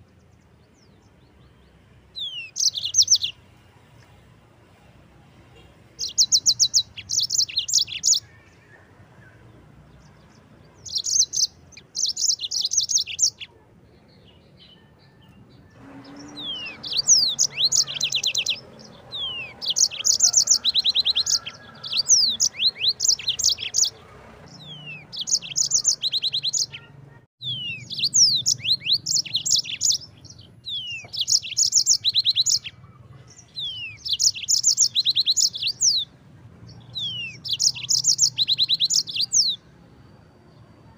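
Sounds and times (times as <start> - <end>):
canary singing trills: 0.0 - 3.5, 5.3 - 40.9.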